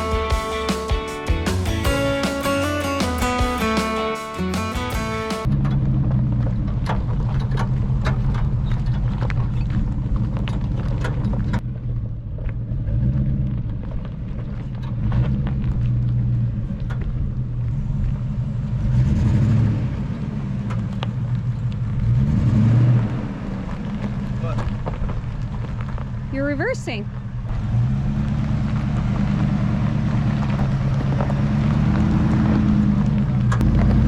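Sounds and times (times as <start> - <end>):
truck engine running: 0.0 - 34.0.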